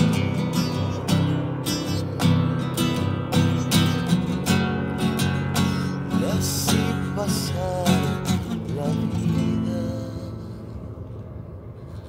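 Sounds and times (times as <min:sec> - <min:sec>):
classical guitar strumming chords: 0:00.0 - 0:10.9.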